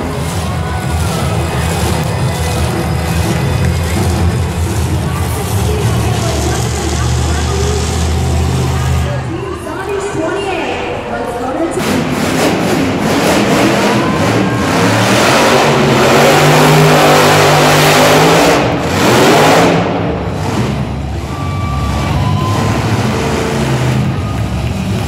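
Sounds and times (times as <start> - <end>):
truck engine revving: 0.0 - 9.3, 11.2 - 25.0.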